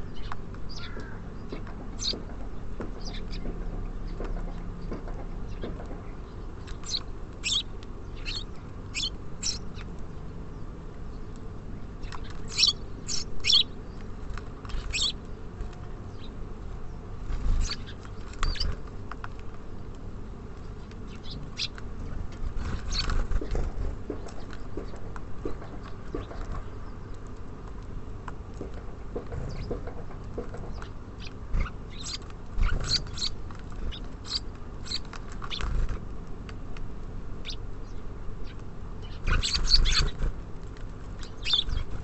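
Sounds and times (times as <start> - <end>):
songbirds chirping: 0.0 - 42.0.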